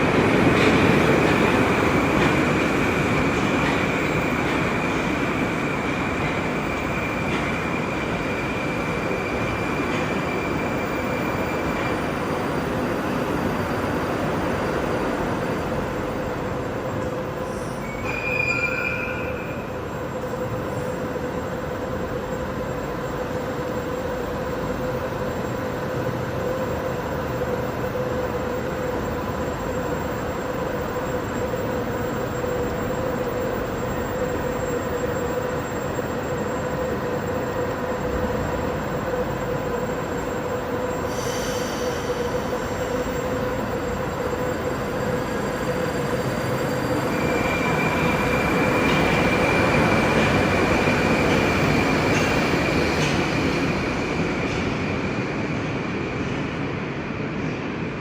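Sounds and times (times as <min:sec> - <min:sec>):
train wheels rolling: 0:00.0 - 0:19.6, 0:30.8 - 0:57.9
steady train whine: 0:00.0 - 0:58.0.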